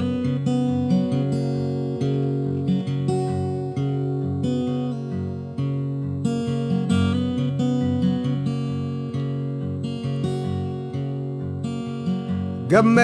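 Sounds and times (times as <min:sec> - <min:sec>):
acoustic guitar country music: 0:00.0 - 0:13.0.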